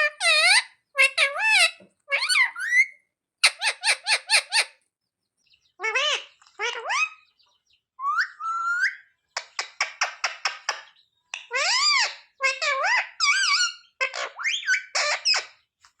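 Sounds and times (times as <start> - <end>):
parakeet calling: 0.0 - 4.8, 5.4 - 15.7.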